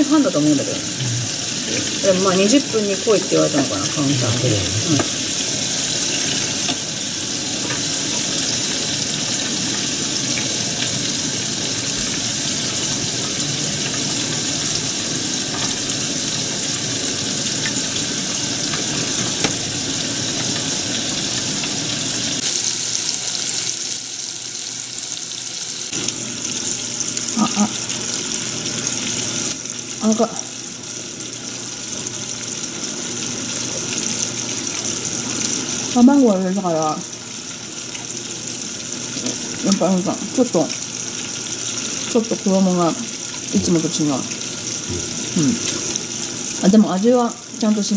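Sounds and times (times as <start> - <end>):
chicken deep-frying in oil: 0.0 - 47.9.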